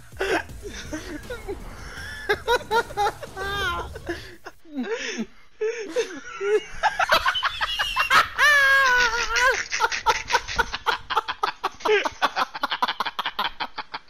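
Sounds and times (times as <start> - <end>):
person laughing hard: 0.2 - 14.0.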